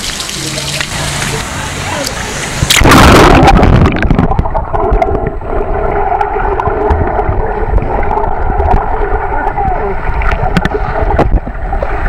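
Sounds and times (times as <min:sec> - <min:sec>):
muffled underwater gurgling: 0:00.0 - 0:12.0
steady hum: 0:00.3 - 0:12.0
low rumble: 0:00.6 - 0:12.0.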